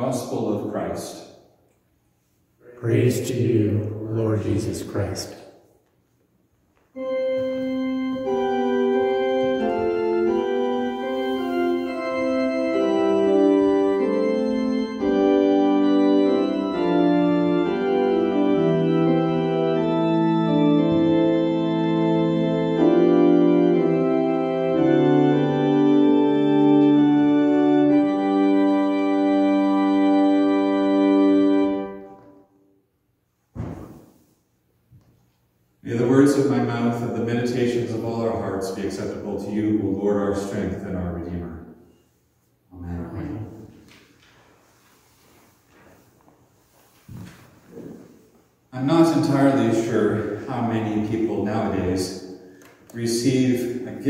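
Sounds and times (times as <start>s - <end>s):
organ playing sustained chords: 0.0s - 1.6s, 2.6s - 5.7s, 6.8s - 33.0s, 35.8s - 43.9s, 47.7s - 54.0s.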